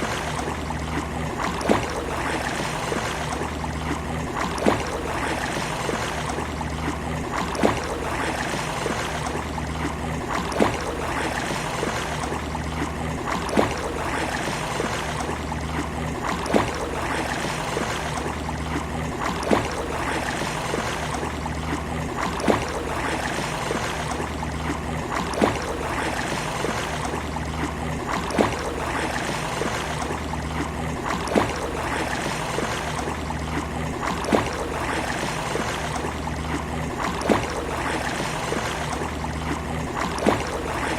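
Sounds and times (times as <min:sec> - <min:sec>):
low hum: 0:00.0 - 0:40.9
waves lapping at a beach: 0:00.0 - 0:40.9.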